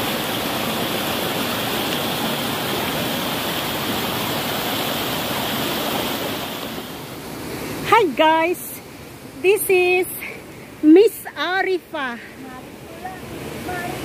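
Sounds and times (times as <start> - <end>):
stream rushing over boulders: 0.0 - 14.0.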